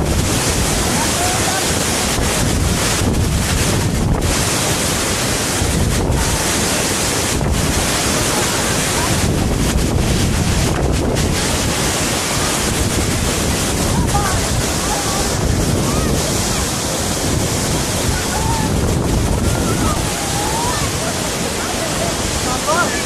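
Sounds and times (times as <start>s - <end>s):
wind noise on microphone: 0.0s - 22.8s
waterfall rushing: 0.0s - 23.0s.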